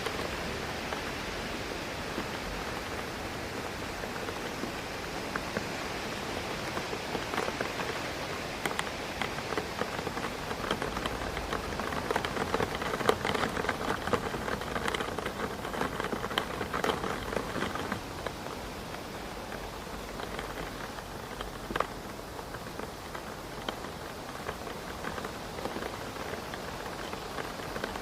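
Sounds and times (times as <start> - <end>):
raindrops tapping on window: 0.0 - 28.0
steady rain rush: 0.0 - 28.0.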